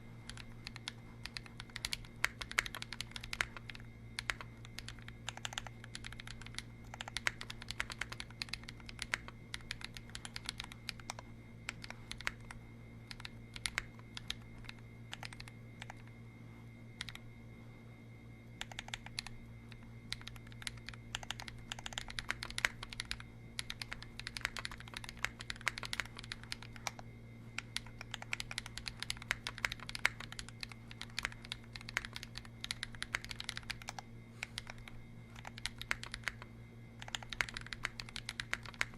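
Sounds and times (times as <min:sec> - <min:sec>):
steady low hum: 0:00.0 - 0:38.9
mechanical keyboard typing: 0:00.3 - 0:16.1, 0:17.0 - 0:17.2, 0:18.6 - 0:27.0, 0:27.6 - 0:38.9.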